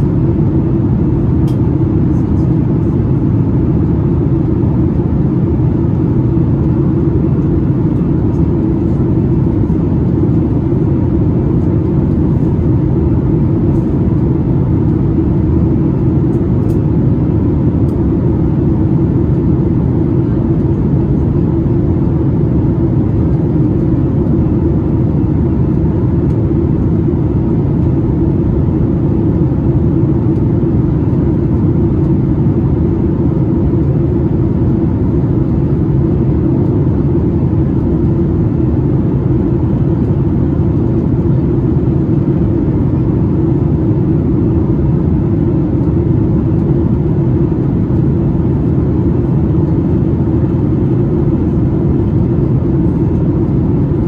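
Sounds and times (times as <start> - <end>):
faint steady hum: 0.0 - 54.0
jet engine cabin rumble: 0.0 - 54.0.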